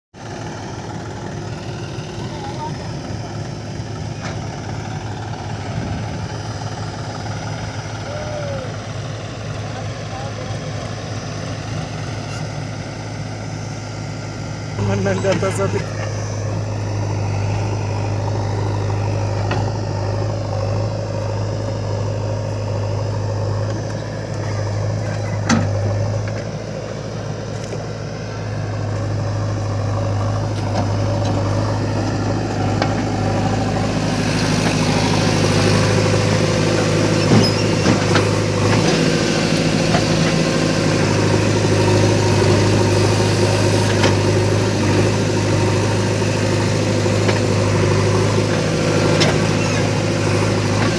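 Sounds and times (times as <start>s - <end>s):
diesel engines running: 0.2s - 50.9s.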